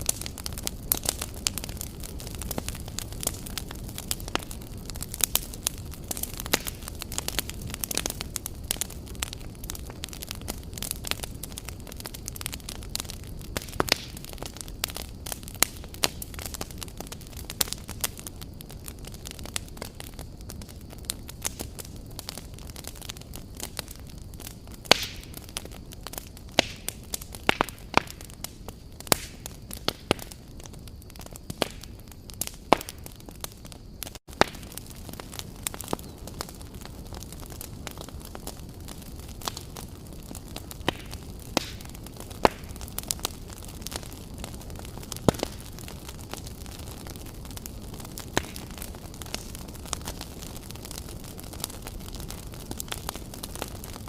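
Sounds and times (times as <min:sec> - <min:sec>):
campfire crackling and popping: 0:00.0 - 0:54.0
low rumble of burning logs: 0:00.0 - 0:54.0.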